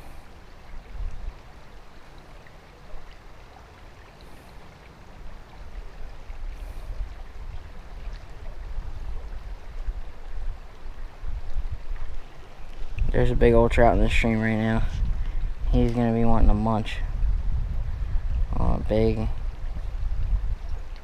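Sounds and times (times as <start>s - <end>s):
creek running over stones: 0.0s - 21.0s.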